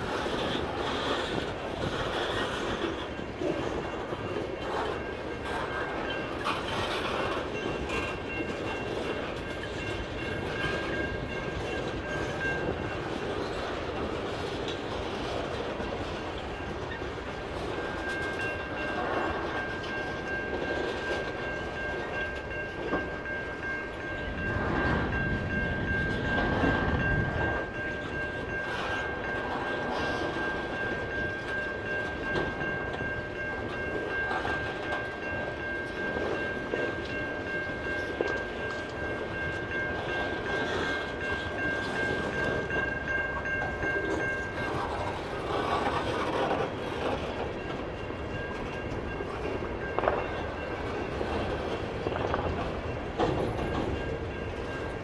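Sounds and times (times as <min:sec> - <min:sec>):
freight train rumble: 0:00.0 - 0:55.0
train wheels clacking on rail joints: 0:00.0 - 0:55.0.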